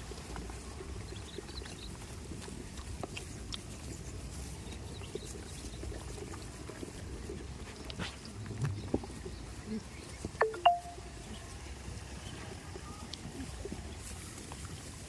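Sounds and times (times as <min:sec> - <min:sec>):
goats' hooves clicking and knocking: 0:00.0 - 0:15.0.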